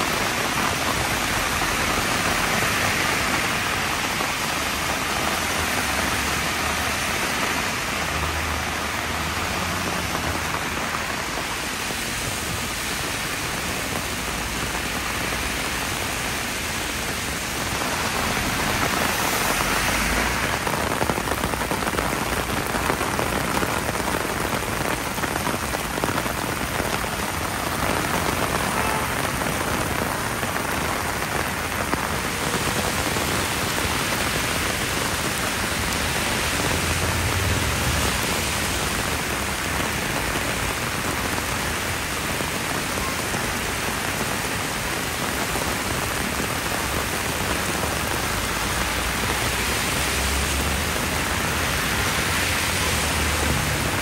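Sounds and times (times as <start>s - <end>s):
heavy rain pouring on road: 0.0s - 54.0s.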